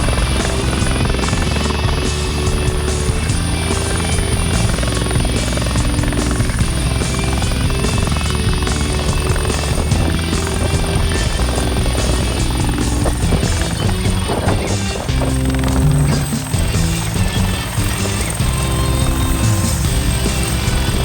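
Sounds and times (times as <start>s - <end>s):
helicopter engines and rotor: 0.0s - 21.0s
music playing: 0.0s - 21.0s.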